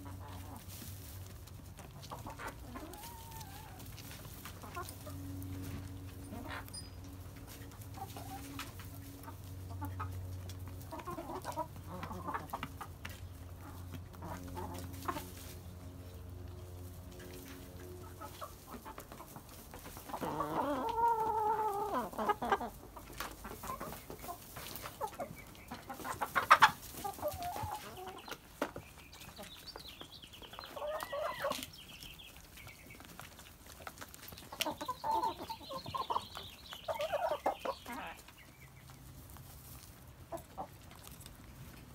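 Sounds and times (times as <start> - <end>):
hens clucking and squawking: 0.0 - 41.9.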